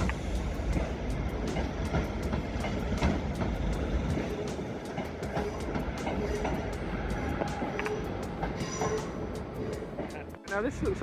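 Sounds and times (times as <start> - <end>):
train low rumble: 0.0 - 11.0
train wheels clicking over rail joints: 0.0 - 11.0.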